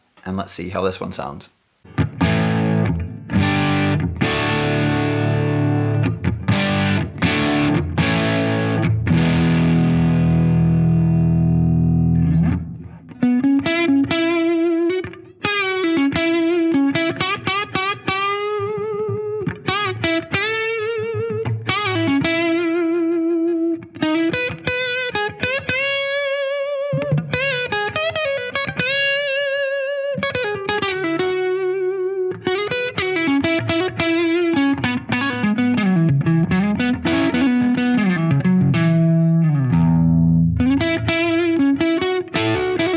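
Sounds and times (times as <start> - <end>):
distorted electric guitar chords: 1.9 - 42.9
electric guitar lead with vibrato: 1.9 - 42.9.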